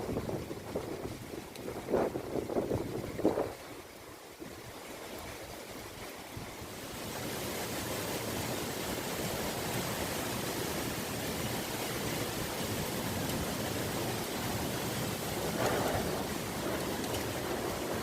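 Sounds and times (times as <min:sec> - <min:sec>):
strong wind blowing: 0:00.0 - 0:03.7, 0:06.4 - 0:18.0.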